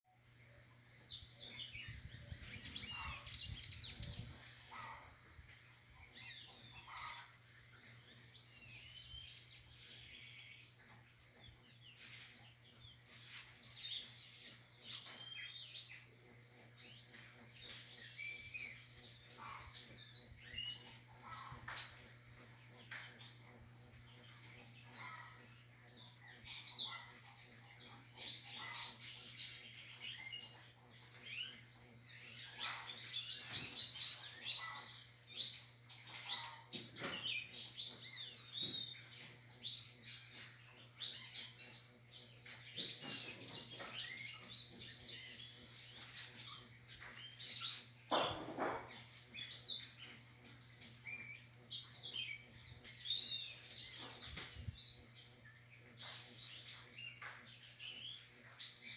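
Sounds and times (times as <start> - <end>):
small birds chirping and singing: 0.0 - 58.9
steady low hum: 0.2 - 58.9.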